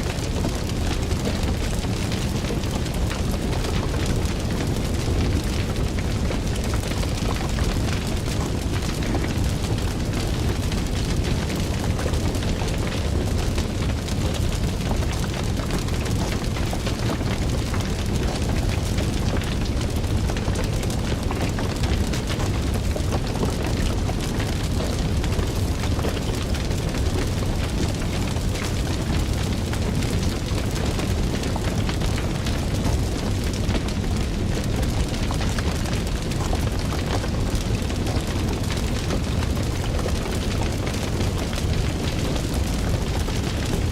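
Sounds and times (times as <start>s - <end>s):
fire roaring and crackling: 0.0s - 43.9s.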